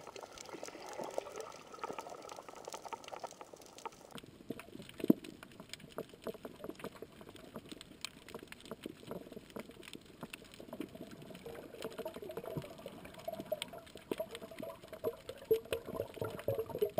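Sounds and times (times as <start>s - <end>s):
underwater clicks and crackles: 0.0s - 16.9s
water hissing and bubbling: 0.0s - 16.9s.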